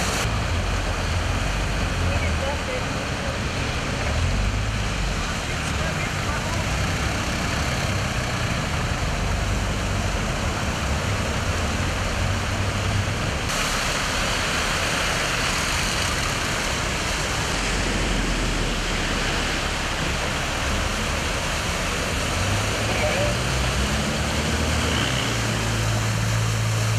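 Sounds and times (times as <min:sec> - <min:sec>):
tyres spraying floodwater: 0:00.0 - 0:26.9.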